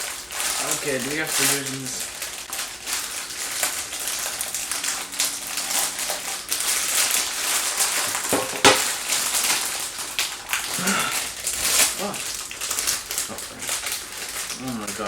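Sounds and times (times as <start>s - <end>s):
snacks crunching and crackling: 0.0s - 15.0s.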